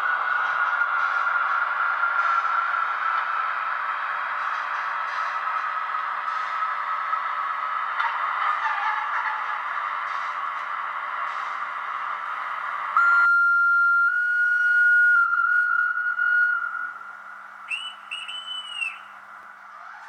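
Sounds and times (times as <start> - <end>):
model locomotive running noise: 0.0 - 13.0, 14.2 - 20.0.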